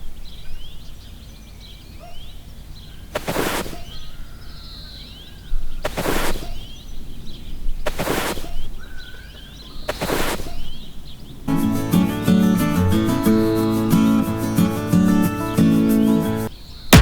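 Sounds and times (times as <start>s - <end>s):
small birds chirping: 0.2s - 16.9s.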